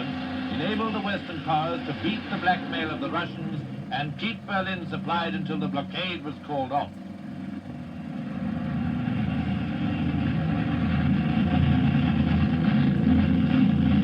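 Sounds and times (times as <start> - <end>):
propeller aircraft engines droning: 0.0 - 14.0.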